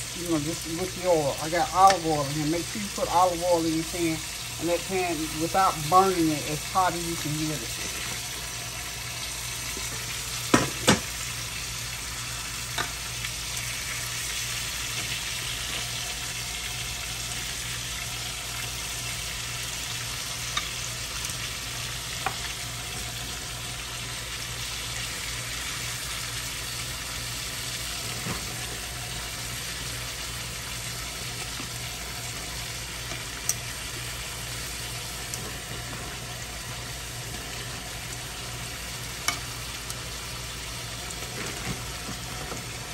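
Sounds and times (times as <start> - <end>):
chicken sizzling in oil: 0.0 - 42.9.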